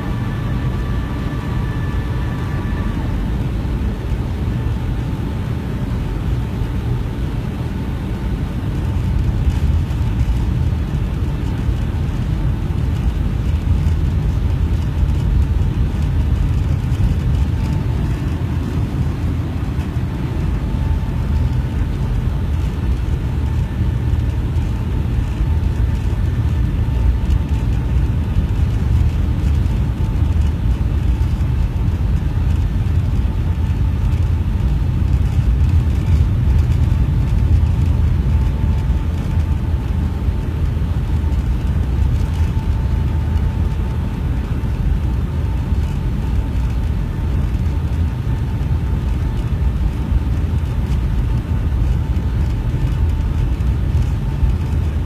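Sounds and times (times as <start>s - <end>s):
faint steady whine: 0.0s - 55.0s
low rumble of engines and airflow: 0.0s - 55.0s.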